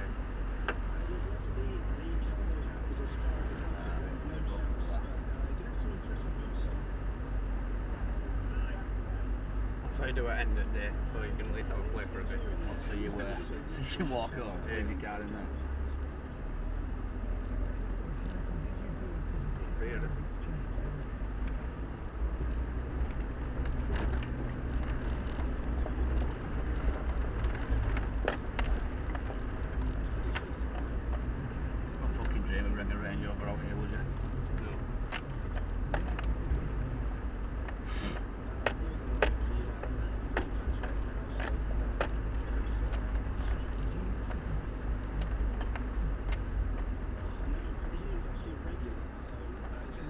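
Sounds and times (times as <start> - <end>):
car engine deep rumble: 0.0 - 50.0.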